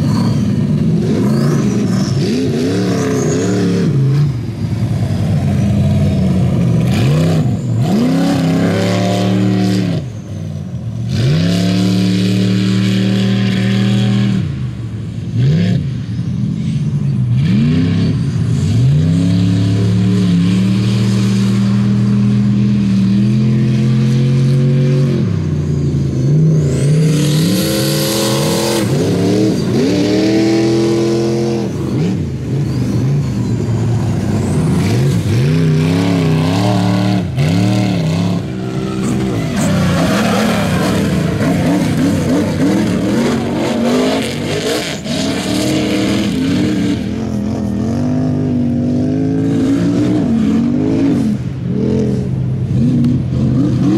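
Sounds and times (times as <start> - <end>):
race vehicle engine revving: 0.0 - 53.9.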